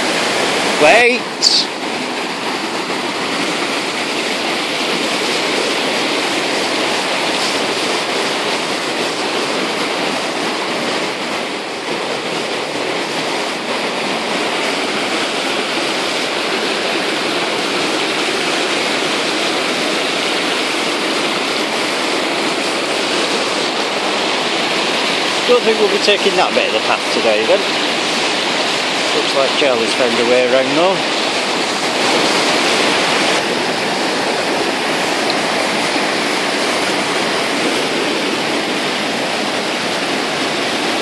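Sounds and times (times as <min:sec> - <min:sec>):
river rushing over boulders: 0:00.0 - 0:41.0.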